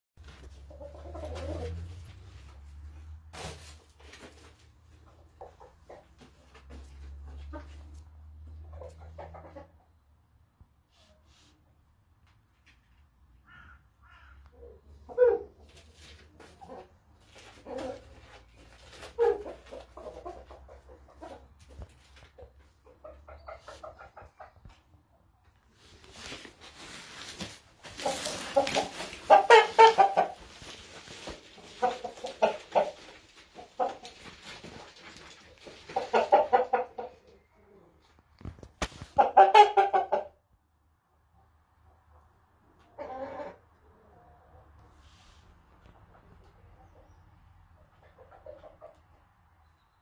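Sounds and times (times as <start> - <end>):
chicken clucking: 0.2 - 10.2, 14.0 - 40.5, 41.2 - 49.8.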